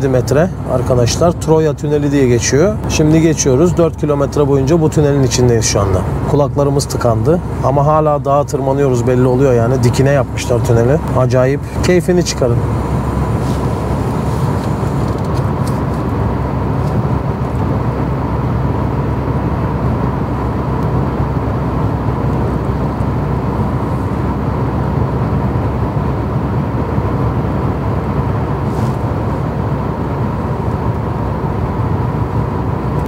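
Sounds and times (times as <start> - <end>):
car engine and tyre noise: 0.0 - 33.0.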